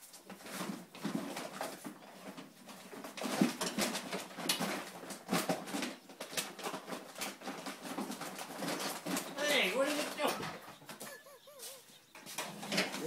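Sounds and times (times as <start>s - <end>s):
bag rustling and crinkling: 0.0s - 13.0s.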